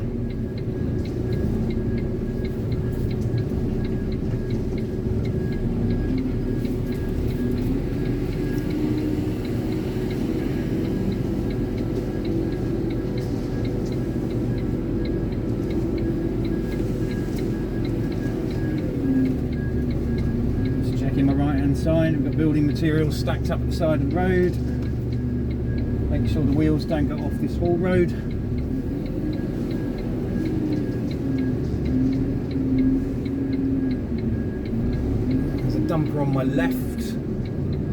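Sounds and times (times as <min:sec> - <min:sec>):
faint electronic reversing beep: 0:00.0 - 0:37.8
diesel engine running at low revs: 0:00.0 - 0:37.9.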